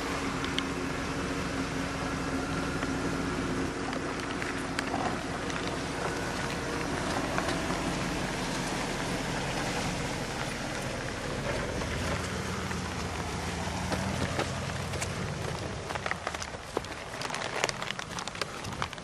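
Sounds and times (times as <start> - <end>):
car engine running: 0.0 - 19.0
tyres rushing over gravel: 0.0 - 19.0
small stones ticking: 2.6 - 19.0.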